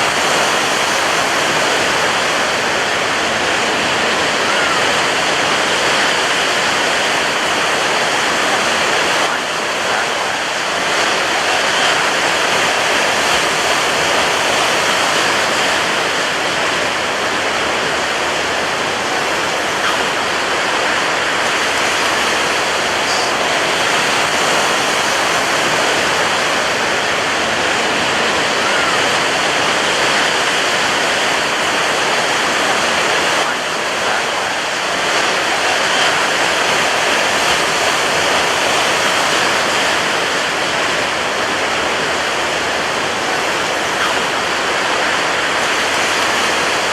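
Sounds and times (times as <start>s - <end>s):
heavy surf breaking on beach: 0.0s - 46.9s.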